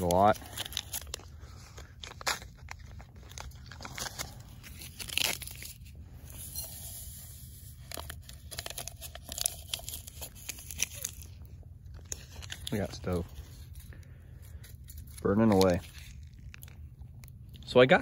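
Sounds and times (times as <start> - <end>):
paper packet crinkling and tearing: 0.0 - 17.7.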